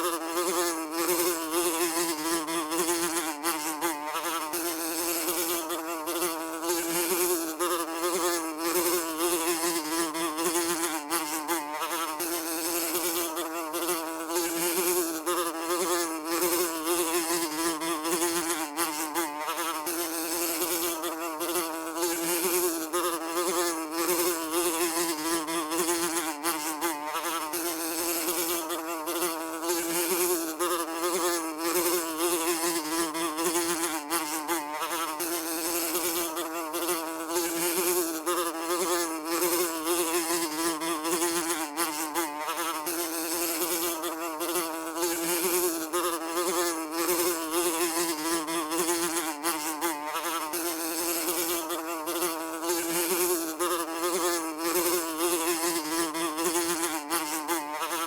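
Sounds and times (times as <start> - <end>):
fly buzzing: 0.0 - 58.0.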